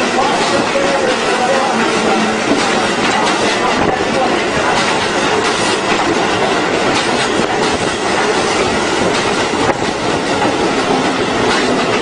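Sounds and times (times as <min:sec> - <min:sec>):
train wheels rushing on rail: 0:00.0 - 0:12.0
wheels clacking over rail joints: 0:00.0 - 0:12.0.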